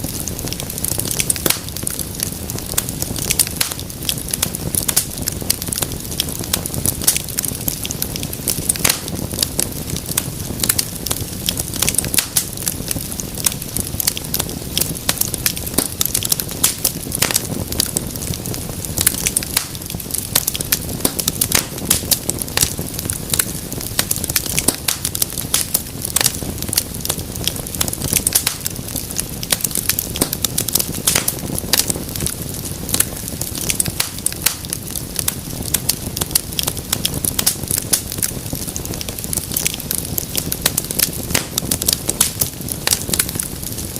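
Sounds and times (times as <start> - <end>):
fire crackling and popping: 0.0 - 43.9
low rumble of flames: 0.0 - 43.9.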